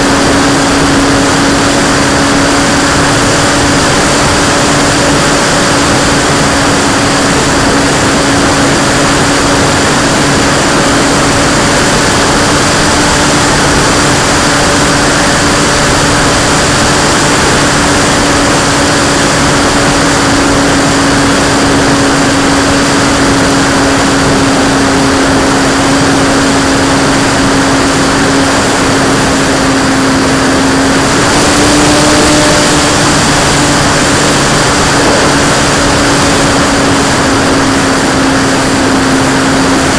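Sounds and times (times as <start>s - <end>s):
model plane motor and propeller: 0.0s - 39.9s
wind rush: 0.0s - 39.9s.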